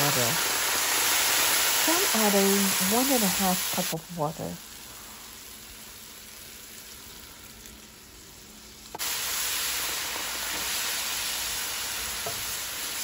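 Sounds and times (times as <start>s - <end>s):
water sizzling in a hot pan: 0.0s - 13.0s.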